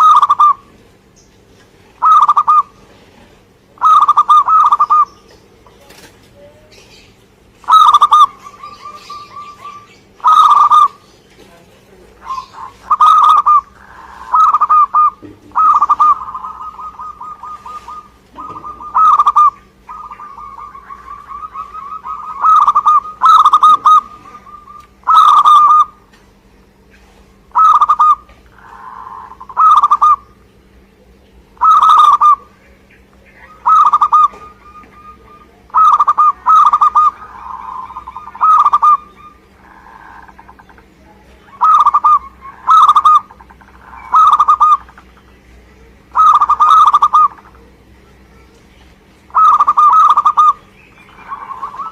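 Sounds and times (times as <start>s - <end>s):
dove rolling coos: 0.0s - 1.1s, 1.7s - 6.0s, 7.2s - 11.1s, 12.2s - 26.1s, 26.8s - 30.8s, 31.5s - 45.2s, 45.9s - 47.8s, 49.2s - 51.9s.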